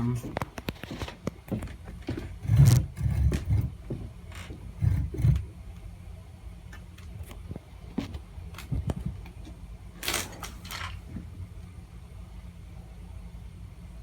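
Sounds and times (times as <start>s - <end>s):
ceiling fan rumbling: 0.0s - 14.0s.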